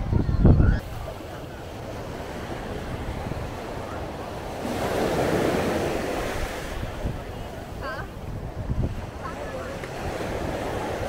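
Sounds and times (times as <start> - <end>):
wind buffeting microphone: 0.0 - 11.0
sea waves washing onto beach: 0.8 - 11.0.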